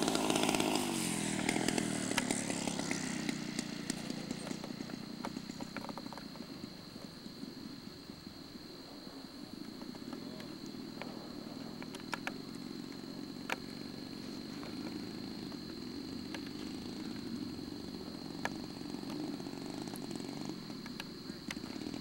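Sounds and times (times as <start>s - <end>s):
model plane engine idling: 0.0s - 7.1s, 11.3s - 22.0s.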